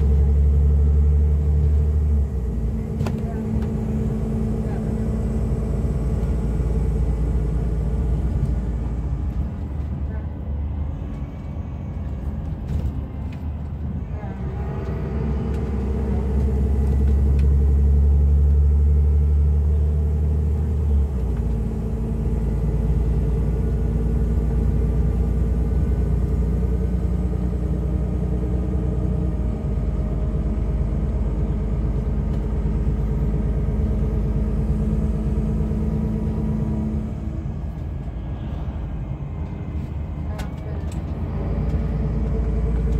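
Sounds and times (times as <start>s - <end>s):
diesel engine droning: 0.0s - 42.9s
road noise: 0.0s - 42.9s.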